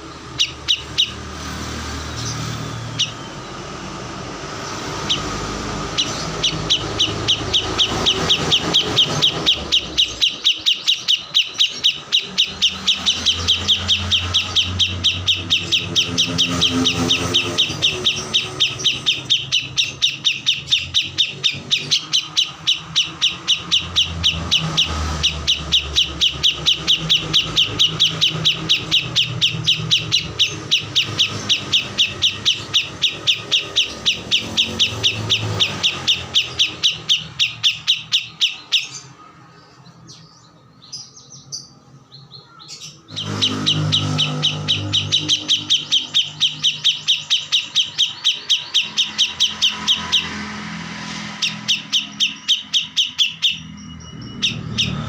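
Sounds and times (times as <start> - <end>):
small songbird chirping fast: 0.0 - 55.0.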